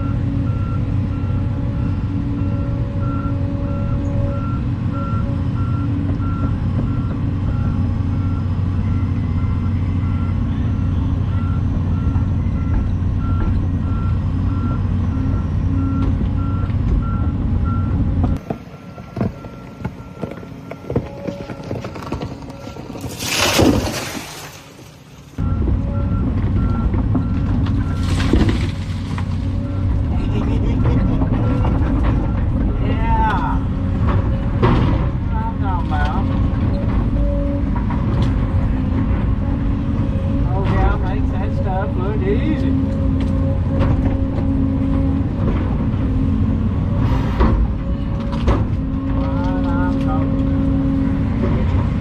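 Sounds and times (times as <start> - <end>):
excavator diesel engine: 0.0 - 23.0, 25.0 - 52.0.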